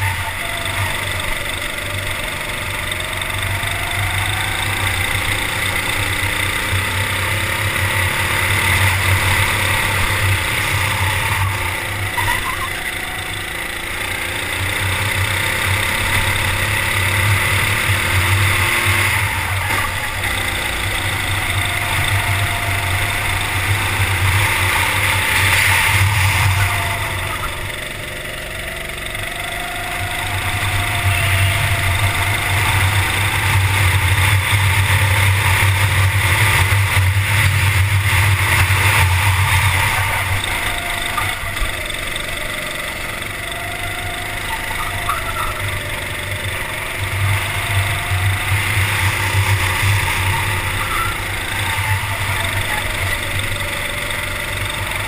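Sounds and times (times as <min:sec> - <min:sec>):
kart engine at racing speed: 0:00.0 - 0:55.0
wind and road noise: 0:00.0 - 0:55.0.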